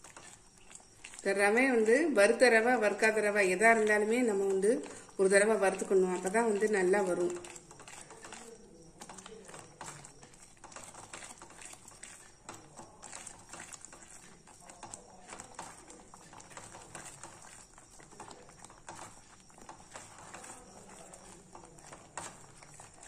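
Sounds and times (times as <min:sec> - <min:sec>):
spatula scraping in a pan: 0:00.0 - 0:23.0.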